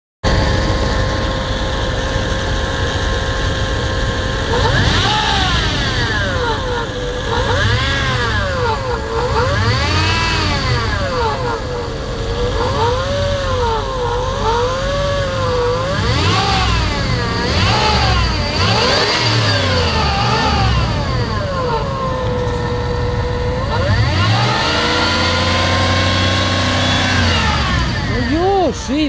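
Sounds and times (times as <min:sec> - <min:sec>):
car engine revving: 0:00.2 - 0:29.0
engine whine: 0:00.2 - 0:29.0.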